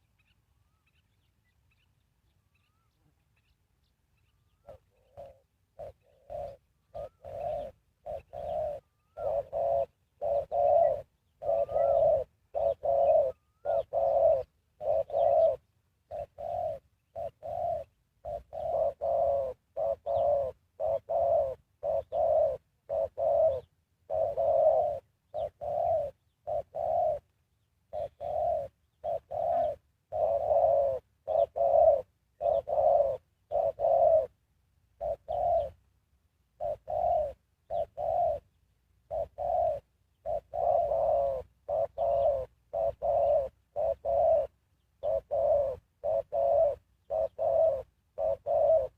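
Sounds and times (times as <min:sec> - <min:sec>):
dove cooing: 0:00.0 - 0:03.6, 0:04.2 - 0:27.3, 0:27.9 - 0:35.9, 0:36.5 - 0:48.9.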